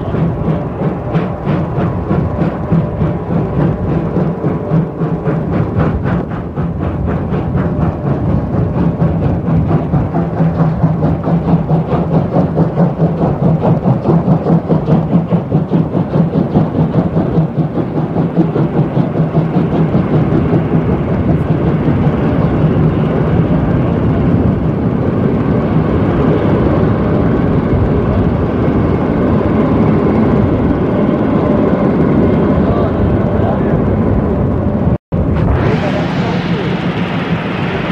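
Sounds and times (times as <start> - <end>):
low hum: 0.0 - 37.9
rumble of rolling train: 0.0 - 37.9
steam locomotive chuffing: 0.0 - 37.9.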